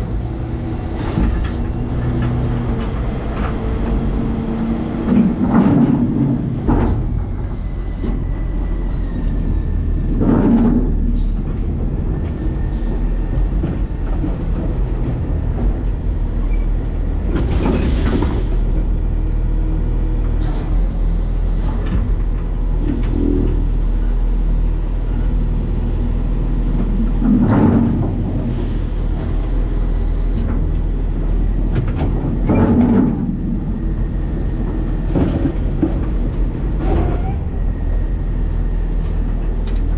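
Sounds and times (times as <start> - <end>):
garbage truck engine rumble: 0.0 - 39.9.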